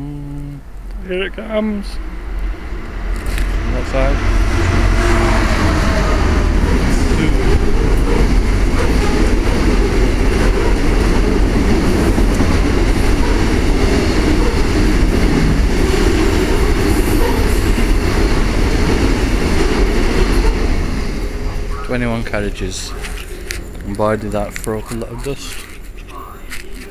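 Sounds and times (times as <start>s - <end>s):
freight train wheels rumbling: 0.0s - 26.9s.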